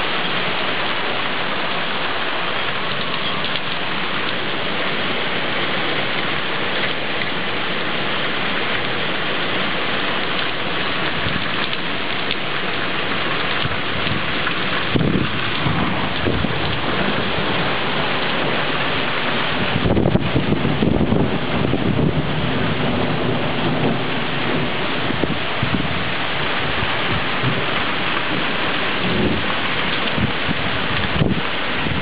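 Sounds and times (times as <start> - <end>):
rain pouring on tiled balcony: 0.0 - 32.0
thunder rumbles: 2.7 - 32.0.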